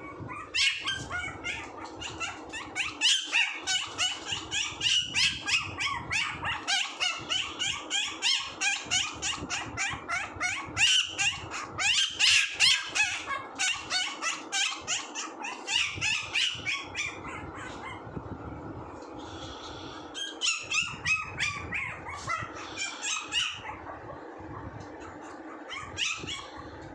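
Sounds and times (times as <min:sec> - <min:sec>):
puppy yipping: 0:00.0 - 0:18.0, 0:20.2 - 0:24.0, 0:25.0 - 0:26.7.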